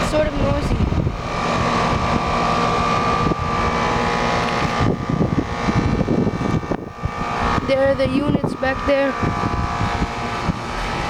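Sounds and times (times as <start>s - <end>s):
heat pump fan humming: 0.0s - 11.0s
steady whine: 0.0s - 11.0s.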